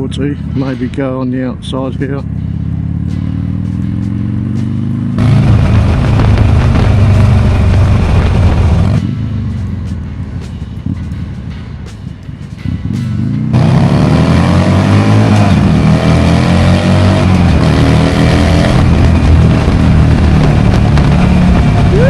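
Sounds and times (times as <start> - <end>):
motorcycle engine accelerating: 1.6 - 11.1, 12.7 - 22.0
loud rushing noise: 4.3 - 22.0.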